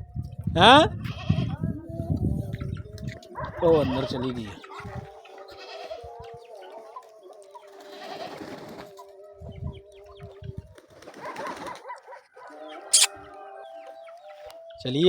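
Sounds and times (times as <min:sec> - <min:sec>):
pigeons cooing: 0:02.4 - 0:14.8.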